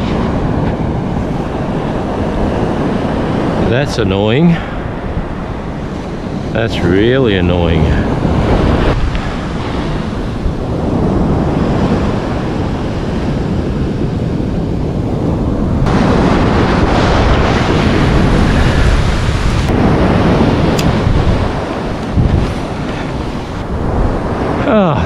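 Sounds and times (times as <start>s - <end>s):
surf breaking on beach: 0.0s - 25.0s
wind buffeting microphone: 0.0s - 25.0s.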